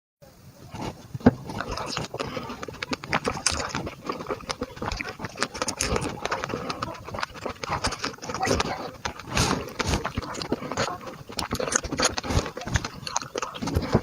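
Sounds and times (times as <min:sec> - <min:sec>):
chewing and crunching food: 0:00.5 - 0:14.0
mouth clicks: 0:00.6 - 0:14.0.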